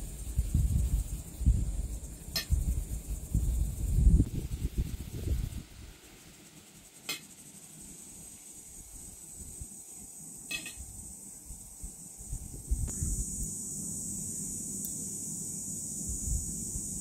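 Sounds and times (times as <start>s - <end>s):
faint high hiss: 0.0s - 17.0s.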